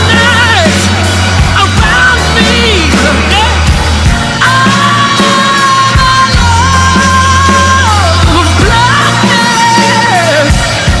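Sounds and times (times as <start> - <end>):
bass and drums: 0.0 - 11.0.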